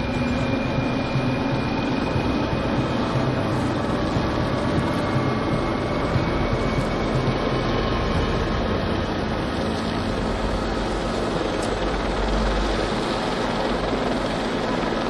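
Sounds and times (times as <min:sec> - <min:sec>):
aircraft drone: 0:00.0 - 0:15.0.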